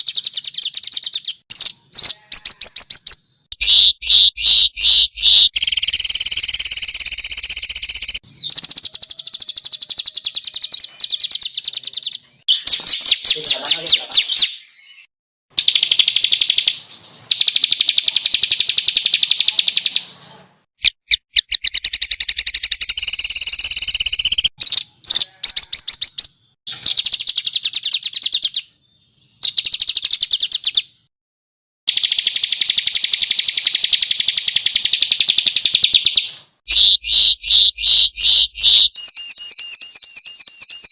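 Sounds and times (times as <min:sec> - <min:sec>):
songbirds singing rapid trills: 0:00.0 - 0:31.1, 0:31.9 - 0:40.9.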